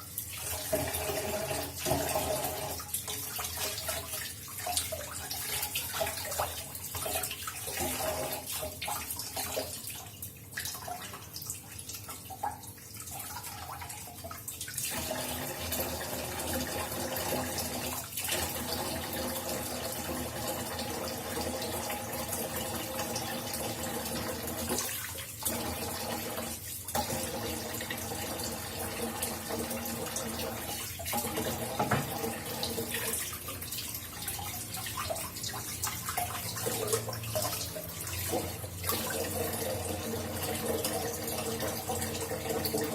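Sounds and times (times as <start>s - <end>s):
kitchen tap running into sink: 0.0s - 42.9s.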